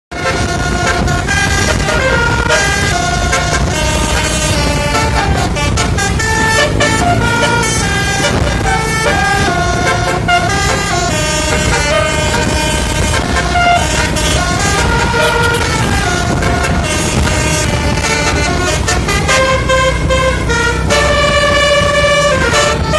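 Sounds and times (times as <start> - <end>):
bus horn playing a tune: 0.1 - 22.9
continuous low rumble: 0.1 - 22.9.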